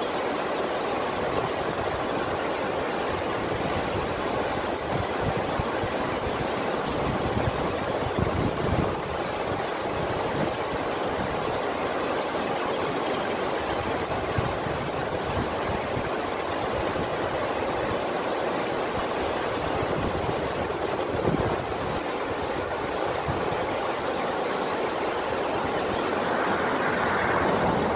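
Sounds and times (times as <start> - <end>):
water rushing: 0.0 - 27.9.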